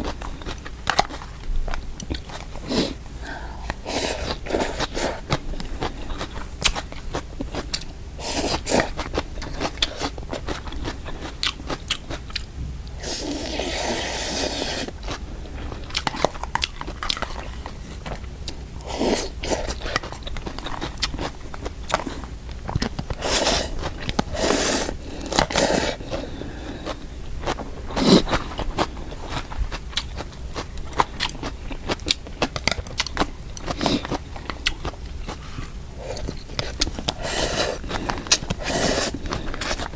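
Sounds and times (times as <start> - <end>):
close chewing of noodles: 0.0 - 39.9.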